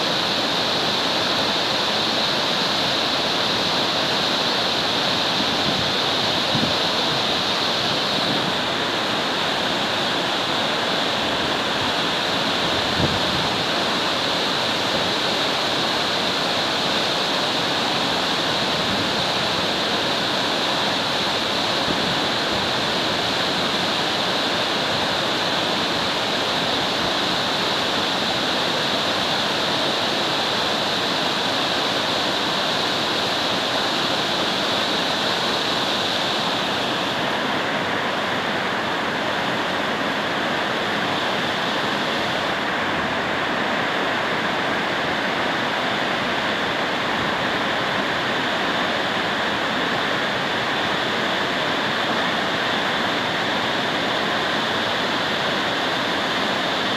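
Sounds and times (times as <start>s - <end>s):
waterfall rushing and splashing: 0.0s - 56.9s.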